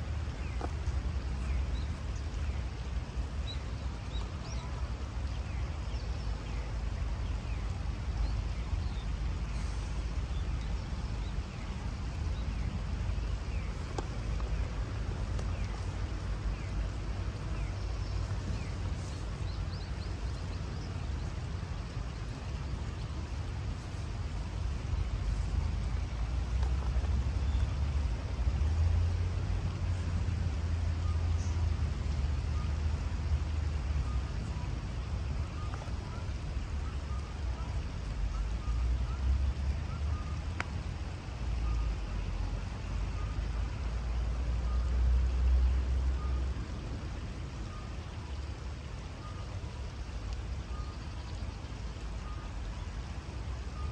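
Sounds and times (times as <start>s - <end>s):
low uneven rumble: 0.0s - 53.9s
river water hissing: 0.0s - 53.9s.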